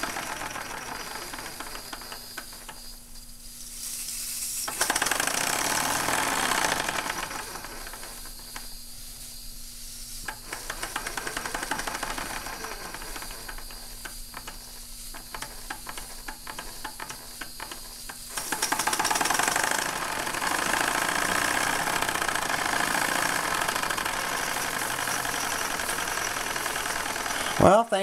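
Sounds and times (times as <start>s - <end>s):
steam engine clicks: 0.0s - 3.0s, 4.7s - 8.7s, 10.2s - 27.8s
steam hissing: 0.0s - 28.0s.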